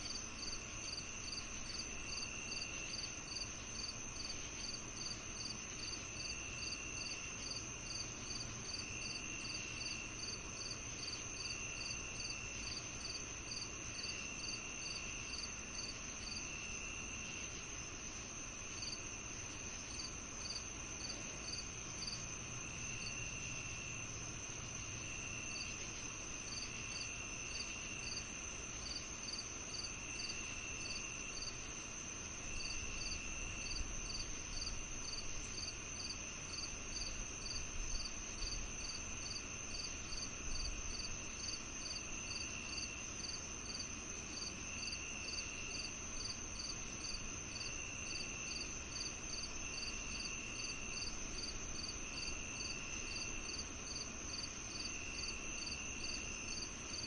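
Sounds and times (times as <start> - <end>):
continuous high insect trill: 0.0 - 57.0
crickets chirping: 0.0 - 57.0.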